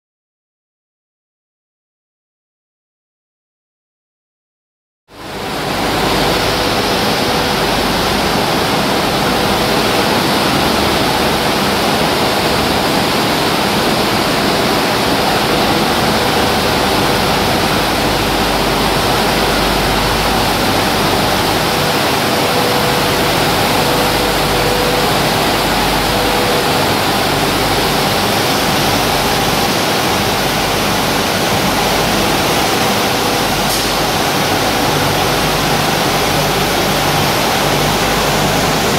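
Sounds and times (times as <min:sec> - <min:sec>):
faint steady hum: 0:05.1 - 0:38.9
flour mill machinery rushing: 0:05.4 - 0:38.9.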